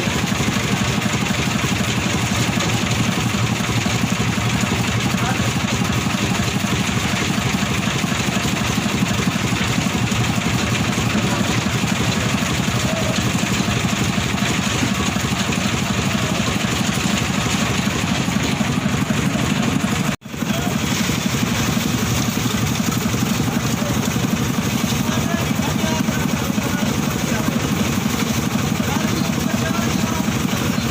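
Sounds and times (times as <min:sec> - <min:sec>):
construction machine engine running: 0:00.0 - 0:30.9.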